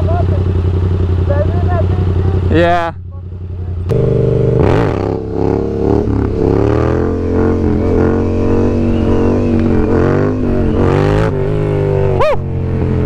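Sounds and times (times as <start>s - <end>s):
motorcycle engine under throttle: 0.0s - 13.0s.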